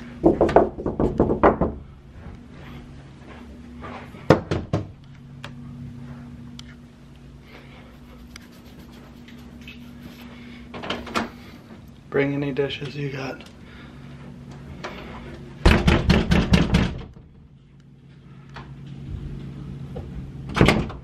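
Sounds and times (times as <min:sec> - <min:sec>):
low household hum: 0:00.0 - 0:21.0.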